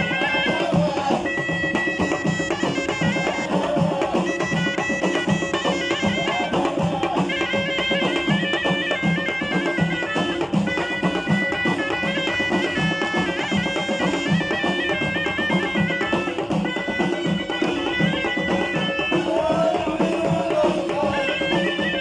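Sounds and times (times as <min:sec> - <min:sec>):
frame drums beating: 0:00.0 - 0:22.0
reed pipe melody: 0:00.0 - 0:22.0.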